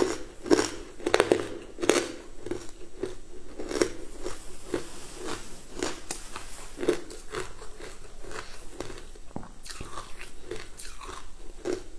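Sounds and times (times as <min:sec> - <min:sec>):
person chewing crunchy food: 0:00.0 - 0:11.9.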